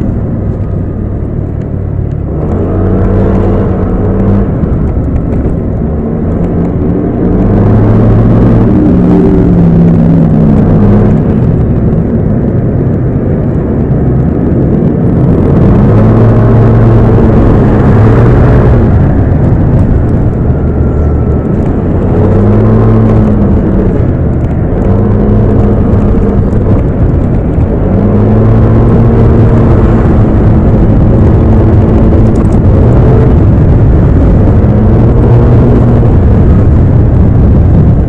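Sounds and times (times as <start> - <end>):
road noise: 0.0 - 38.0
motorbike engine revving: 2.0 - 12.2, 14.9 - 38.0.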